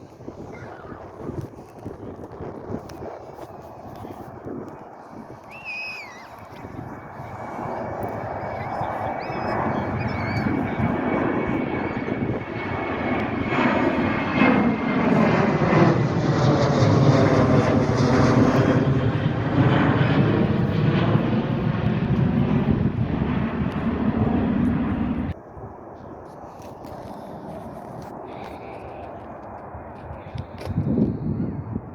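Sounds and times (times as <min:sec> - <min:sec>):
jet engines roaring: 0:00.0 - 0:31.9.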